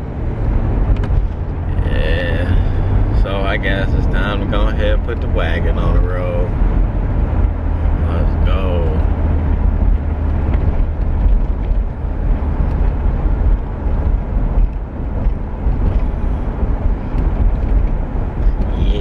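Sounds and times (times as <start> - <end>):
car driving on road: 0.0 - 19.0.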